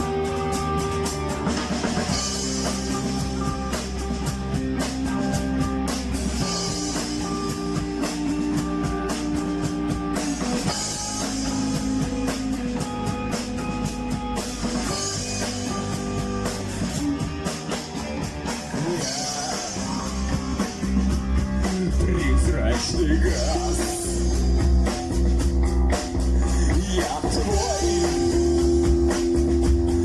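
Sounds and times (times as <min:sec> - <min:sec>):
drum kit beat: 0:00.0 - 0:30.0
rock band instrumental: 0:00.0 - 0:30.0
sustained guitar chords: 0:00.0 - 0:30.0.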